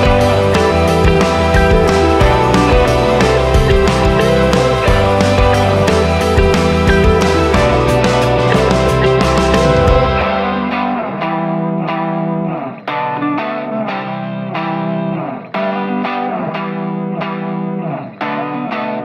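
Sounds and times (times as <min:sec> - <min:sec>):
electric guitar with chorus effect: 0:00.0 - 0:19.0.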